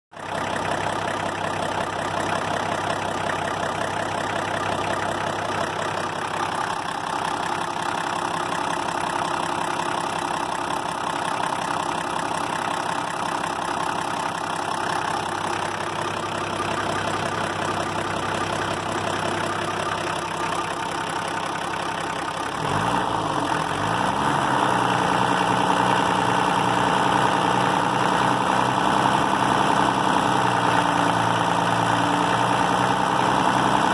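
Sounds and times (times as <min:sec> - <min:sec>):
diesel engine idling: 0:00.2 - 0:33.9.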